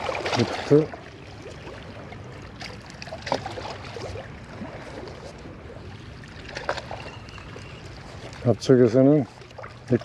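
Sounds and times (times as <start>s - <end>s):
waves lapping at shore: 0.0s - 10.0s.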